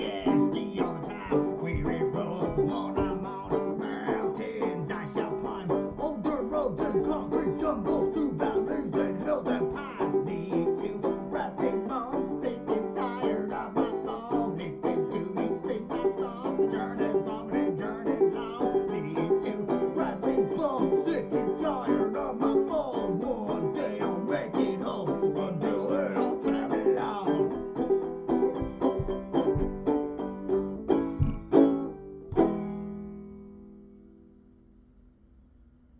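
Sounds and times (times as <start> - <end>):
acoustic band with plucked strings: 0.0 - 34.6.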